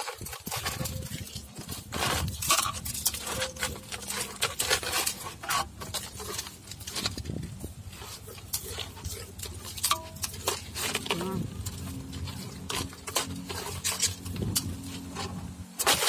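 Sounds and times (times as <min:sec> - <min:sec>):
fish scales being scraped: 0:00.0 - 0:16.0.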